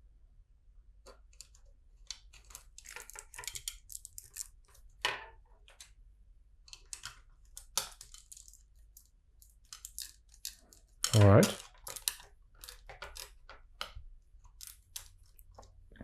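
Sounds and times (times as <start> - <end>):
plastic bricks clicking together: 1.1 - 5.9, 6.7 - 15.8.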